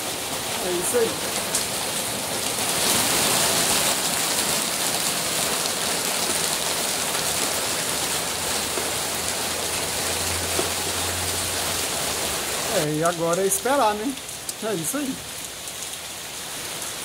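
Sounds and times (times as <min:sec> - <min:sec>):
rain heard inside a car: 0:00.0 - 0:17.0.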